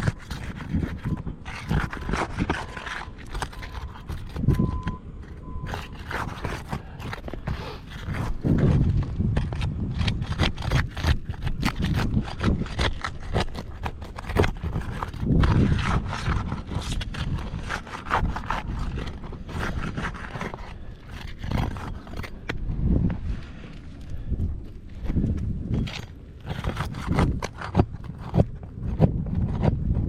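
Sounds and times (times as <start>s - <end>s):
tools scraping and knocking shingle: 0.0s - 30.0s.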